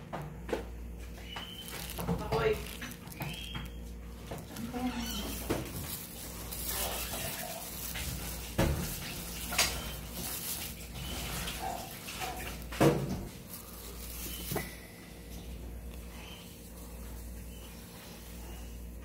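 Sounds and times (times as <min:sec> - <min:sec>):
plastic bags crinkling: 0:01.0 - 0:17.6.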